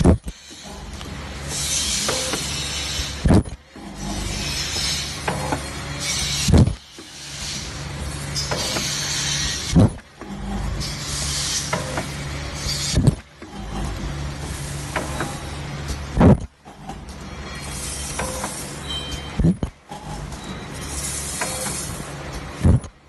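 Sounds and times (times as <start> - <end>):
packing machine running: 0.0 - 23.0
loud machine stroke: 0.3 - 15.8, 17.2 - 22.1.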